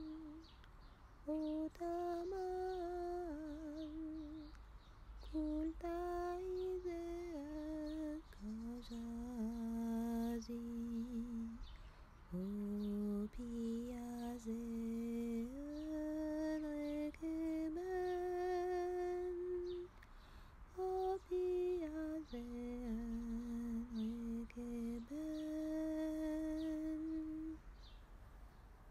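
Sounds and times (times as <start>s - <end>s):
person humming a melody: 0.0s - 0.6s, 1.3s - 4.6s, 5.3s - 20.0s, 20.8s - 27.6s.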